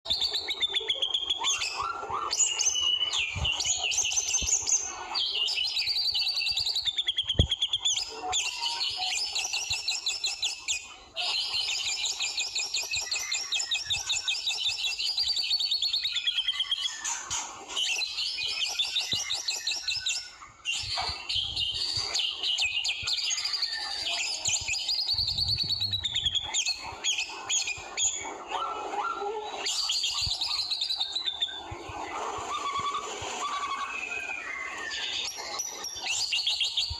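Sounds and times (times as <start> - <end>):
bird singing rapid rattling trills: 0.1 - 28.5, 29.4 - 36.9
bird whistled phrases: 0.1 - 36.9.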